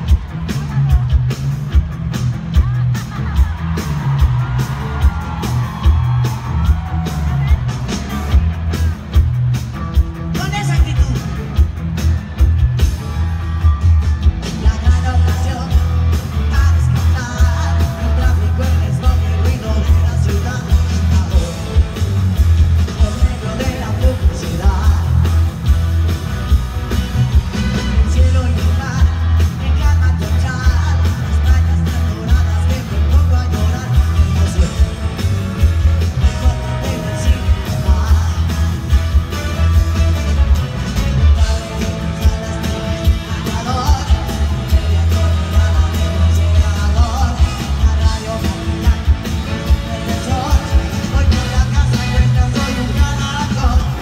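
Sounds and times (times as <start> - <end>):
pop-rock band with horns: 0.0 - 54.0.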